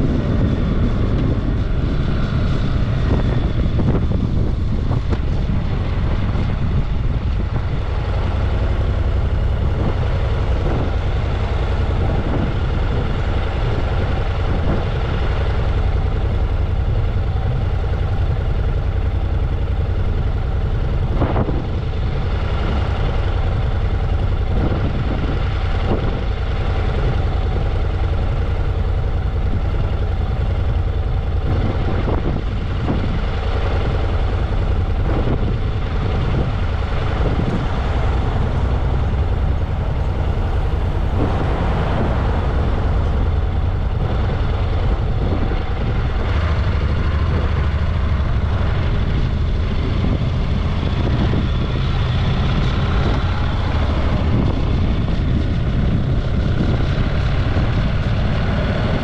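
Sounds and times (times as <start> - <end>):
motorcycle engine running: 0.0 - 59.0
wind on microphone: 0.0 - 59.0.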